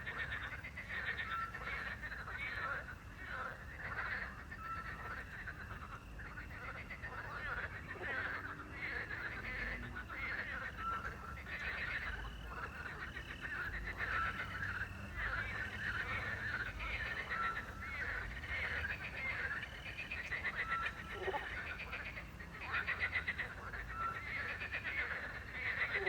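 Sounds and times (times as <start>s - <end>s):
crickets chirping: 0.0s - 26.0s
frogs croaking: 0.0s - 26.0s.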